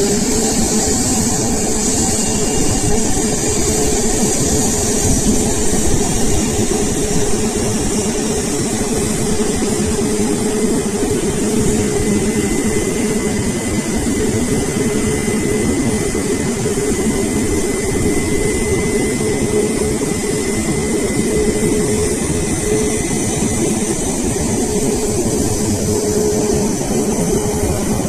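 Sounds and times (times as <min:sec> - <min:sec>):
jet engine high hiss: 0:00.0 - 0:28.0
jet engines rumbling: 0:00.0 - 0:28.0.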